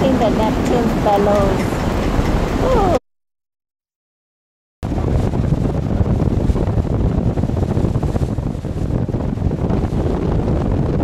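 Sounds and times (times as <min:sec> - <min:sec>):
wind buffeting microphone: 0:00.0 - 0:03.0, 0:04.8 - 0:11.0.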